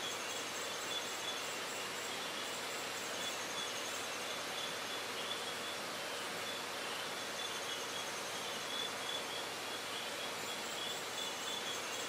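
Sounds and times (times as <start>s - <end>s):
insects trilling: 0.0s - 12.0s
steady hiss: 0.0s - 12.0s.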